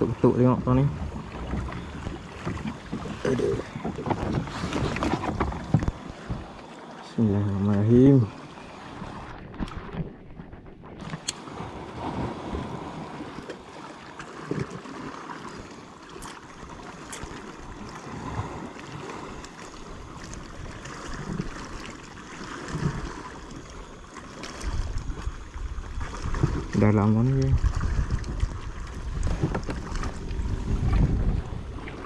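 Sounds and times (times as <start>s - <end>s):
water lapping against hull: 0.0s - 32.0s.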